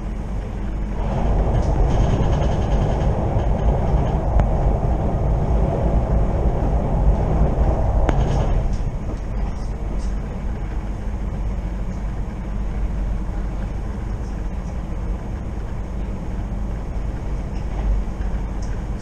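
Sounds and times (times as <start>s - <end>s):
moving train rumble: 0.0s - 19.0s.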